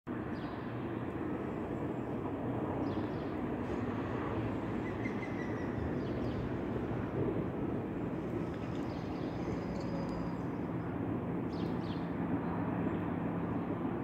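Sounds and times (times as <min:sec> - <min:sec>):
distant traffic rumble: 0:00.1 - 0:14.0.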